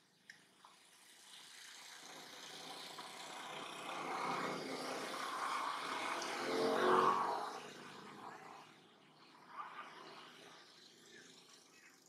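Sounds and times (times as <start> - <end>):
motor vehicle passing: 1.2 - 12.0.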